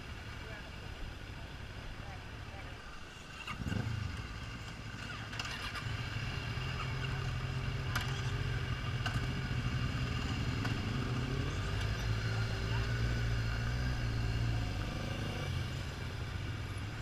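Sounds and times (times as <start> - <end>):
motorcycle engines idling and revving: 0.0 - 17.0.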